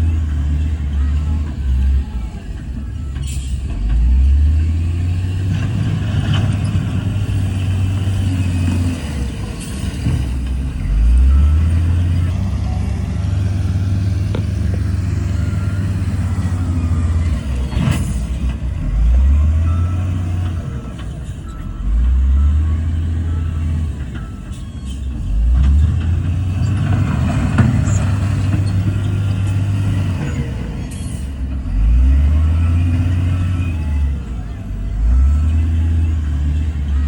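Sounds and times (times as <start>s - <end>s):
heavy diesel engine surging: 0.0s - 37.0s.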